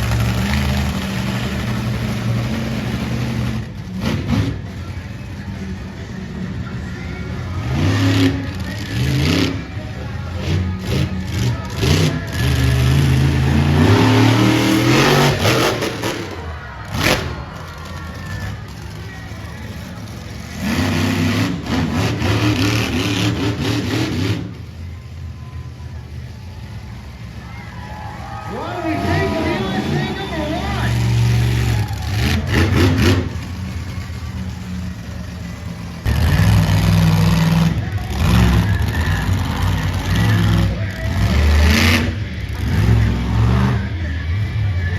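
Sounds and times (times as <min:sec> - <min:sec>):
monster truck engine revving: 0:00.0 - 0:44.9.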